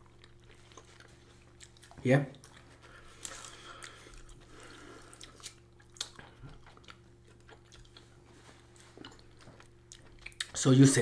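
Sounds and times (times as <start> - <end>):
chewing with mouth clicks: 0.0 - 10.6.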